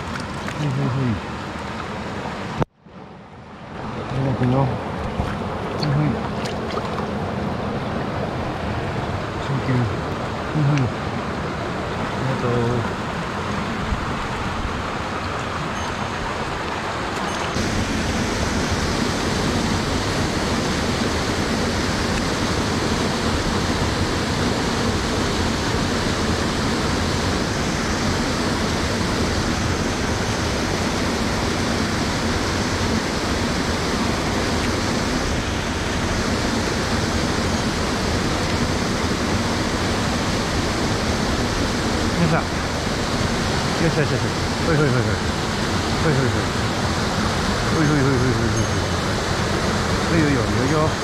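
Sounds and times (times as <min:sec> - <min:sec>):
stream rushing over cascade: 0:00.0 - 0:51.0.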